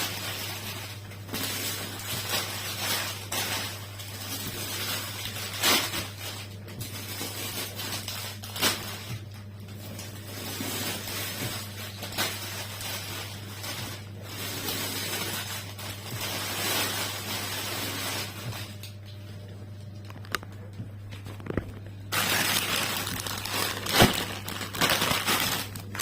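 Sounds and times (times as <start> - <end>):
food packaging rustling: 0.0 - 19.1, 20.0 - 26.0
steady low hum: 0.0 - 26.0.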